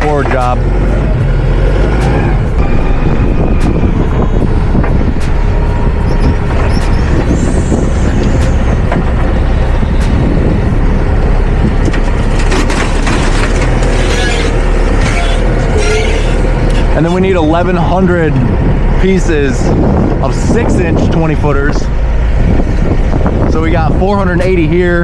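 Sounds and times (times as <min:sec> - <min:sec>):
forklift engine running: 0:00.0 - 0:24.8
wind buffeting microphone: 0:00.0 - 0:25.0.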